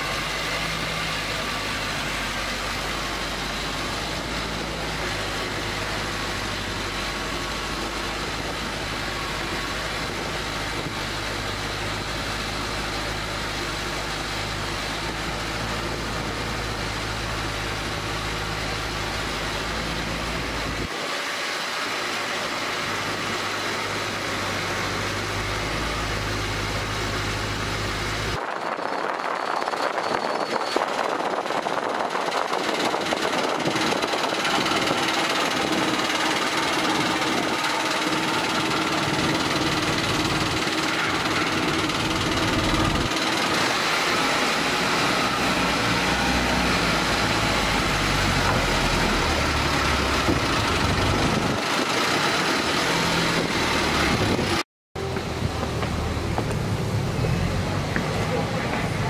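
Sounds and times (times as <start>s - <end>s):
boat engine humming: 0.0s - 59.0s
rushing of boat on water: 0.0s - 59.0s.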